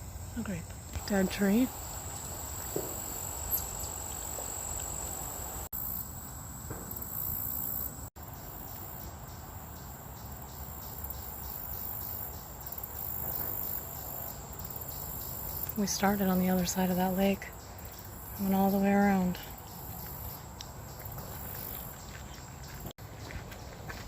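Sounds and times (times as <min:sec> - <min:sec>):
pulsing insect call: 0:00.0 - 0:22.9
insects trilling chorus: 0:00.0 - 0:23.8.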